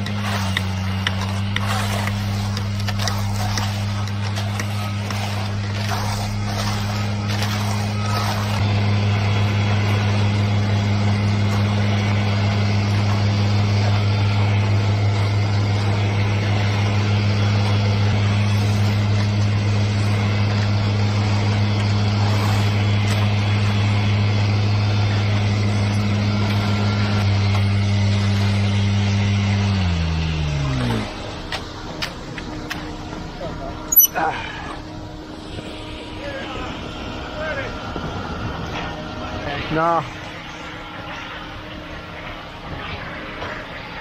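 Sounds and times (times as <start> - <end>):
power screed engine running: 0.0 - 44.0.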